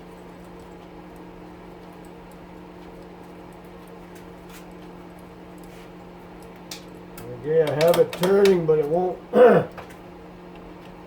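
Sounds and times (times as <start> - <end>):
stove fan hum: 0.0 - 11.0.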